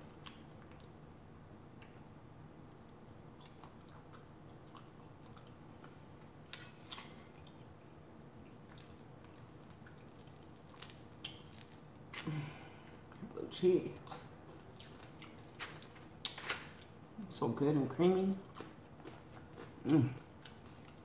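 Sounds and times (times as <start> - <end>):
chewing and wet mouth sounds: 0.0 - 1.1, 2.7 - 17.0, 17.8 - 21.0.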